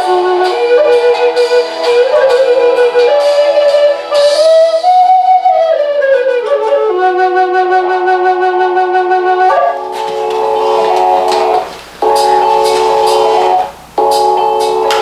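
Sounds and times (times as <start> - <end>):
guitar backing track: 0.0 - 8.2, 9.1 - 15.0
wooden flute playing: 0.0 - 14.4.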